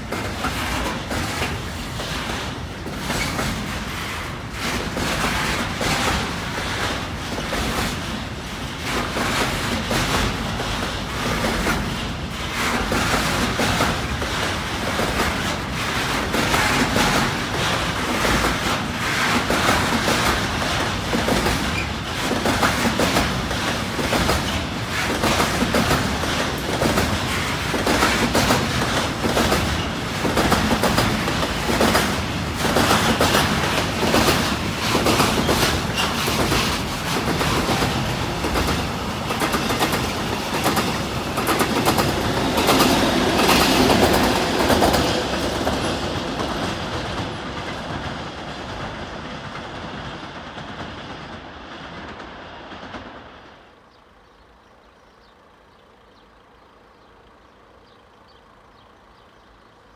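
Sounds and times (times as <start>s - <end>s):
freight train wagons rumbling: 0.0s - 59.9s.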